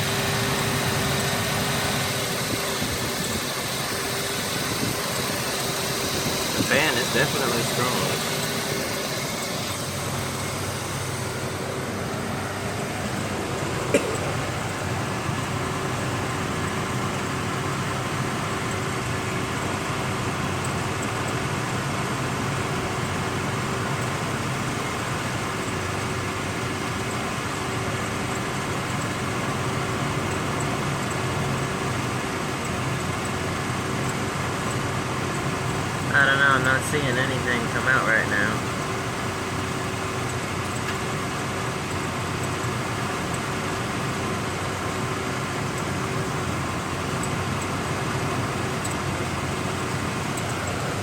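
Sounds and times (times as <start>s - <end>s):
cooling fan whirring: 0.0s - 51.0s
truck engine idling: 0.0s - 51.0s.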